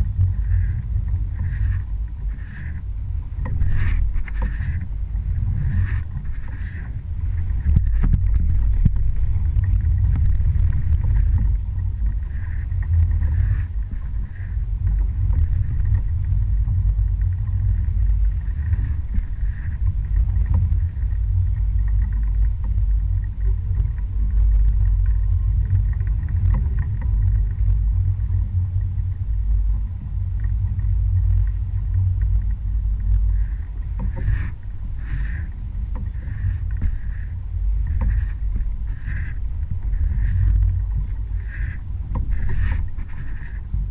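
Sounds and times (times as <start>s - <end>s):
boat motor rumble: 0.0s - 43.9s
light water noise: 0.0s - 43.9s.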